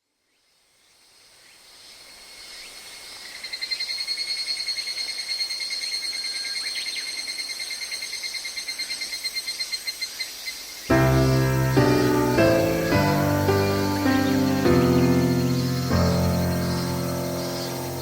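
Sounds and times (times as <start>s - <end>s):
faint outdoor hiss: 0.0s - 18.0s
insects chirping: 0.3s - 18.0s.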